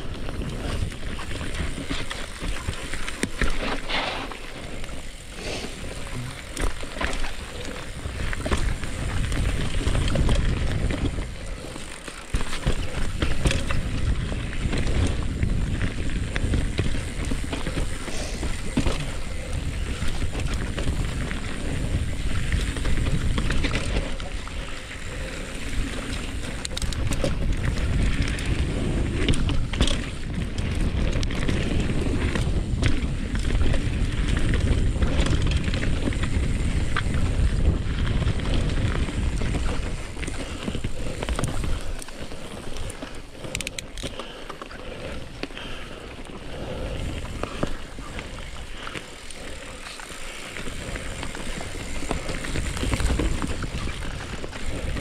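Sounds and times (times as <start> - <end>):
wind buffeting microphone: 7.0 - 55.0.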